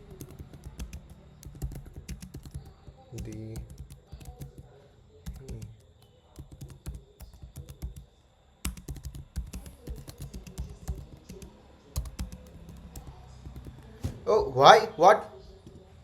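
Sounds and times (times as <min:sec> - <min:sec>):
computer keyboard typing: 0:00.0 - 0:14.4.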